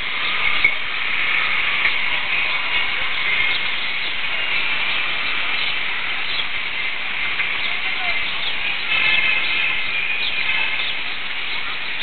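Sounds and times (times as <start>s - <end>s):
high outdoor hiss: 0.0s - 12.0s.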